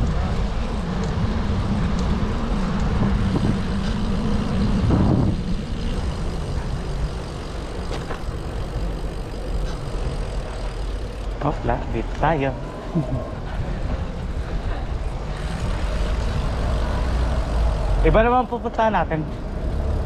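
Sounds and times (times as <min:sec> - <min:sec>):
road traffic rumbling: 0:00.0 - 0:20.0
vehicle passing: 0:00.0 - 0:20.0.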